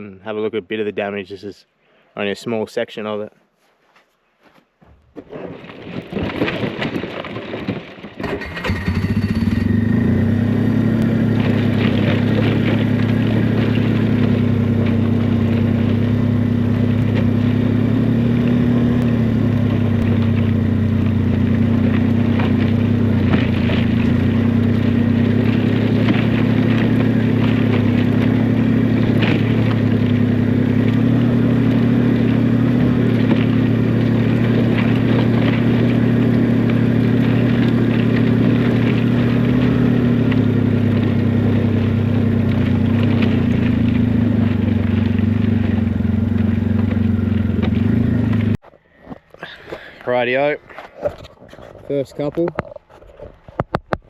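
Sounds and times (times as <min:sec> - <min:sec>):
motorbike engine running: 0:08.2 - 0:54.0.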